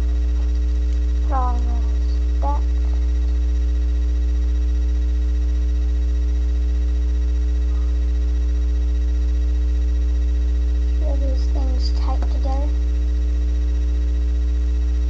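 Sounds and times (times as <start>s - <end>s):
faint steady tones: 0.0s - 15.0s
low mains hum: 0.0s - 15.0s.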